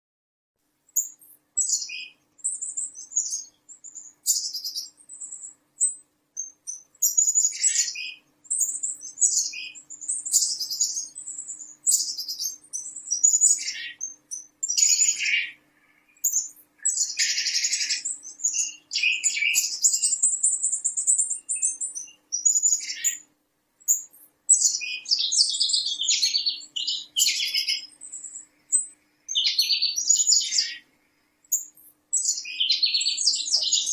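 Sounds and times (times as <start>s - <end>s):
small birds chirping: 0.7s - 33.9s.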